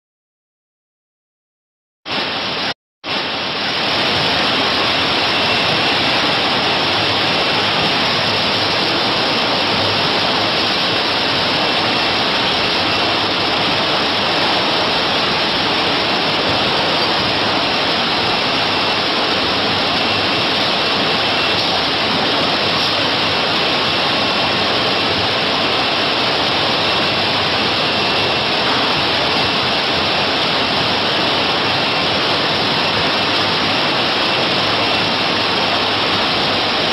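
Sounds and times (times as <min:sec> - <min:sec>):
rushing machinery noise: 0:02.1 - 0:36.9
faint high whine: 0:02.2 - 0:36.9.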